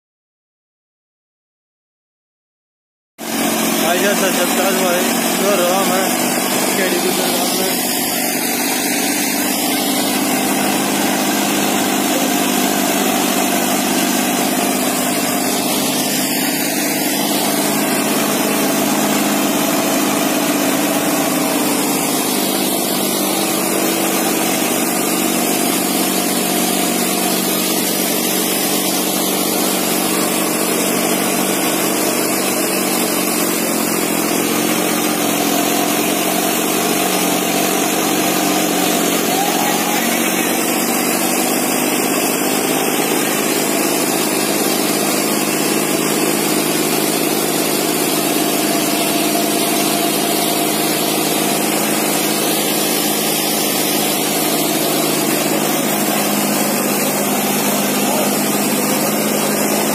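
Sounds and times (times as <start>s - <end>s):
tractor diesel engine under load: 3.2s - 59.9s.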